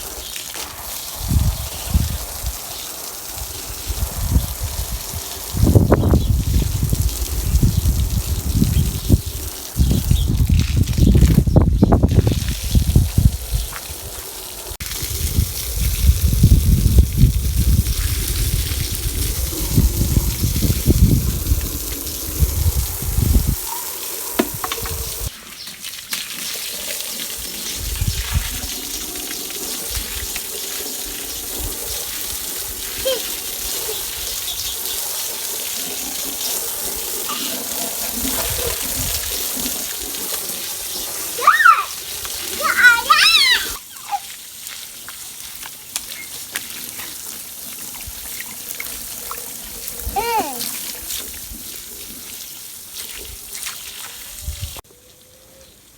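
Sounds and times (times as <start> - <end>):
running water splashing: 0.0 - 54.8.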